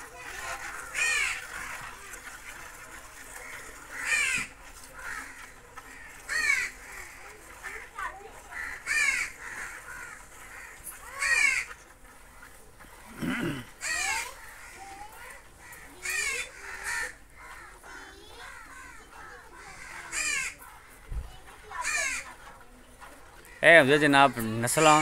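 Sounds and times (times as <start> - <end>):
crow cawing: 0.2 - 1.9, 3.4 - 11.8, 13.2 - 22.4, 23.5 - 25.0.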